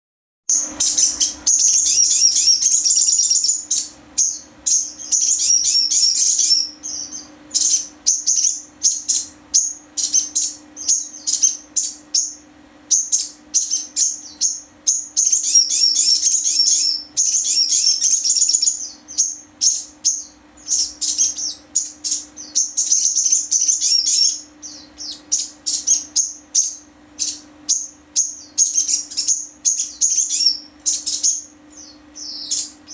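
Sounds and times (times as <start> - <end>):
faint low hum: 0.5 - 32.9
songbird chirping and trilling: 0.5 - 32.9.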